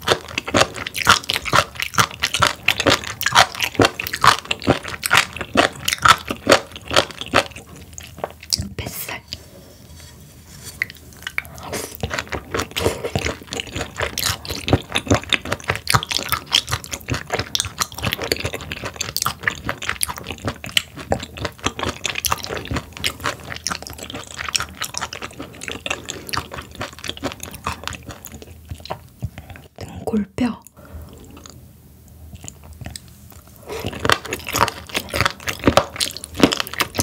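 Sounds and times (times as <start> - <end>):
wet chewing sounds: 0.0 - 8.7, 10.8 - 37.0.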